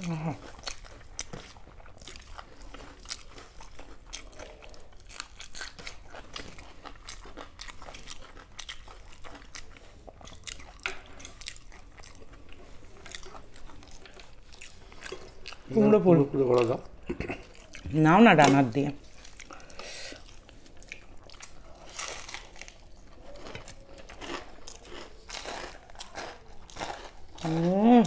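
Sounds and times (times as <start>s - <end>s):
crunching and chewing fried food: 0.0s - 28.0s.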